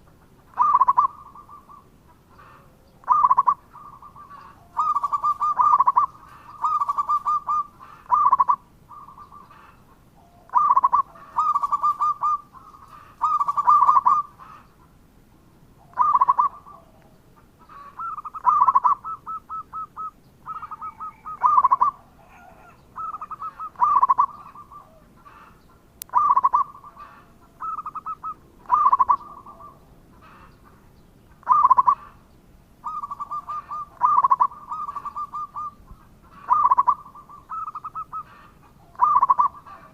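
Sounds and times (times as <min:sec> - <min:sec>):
dove cooing: 0:00.0 - 0:14.7, 0:15.8 - 0:30.8, 0:31.4 - 0:32.2, 0:32.8 - 0:39.9.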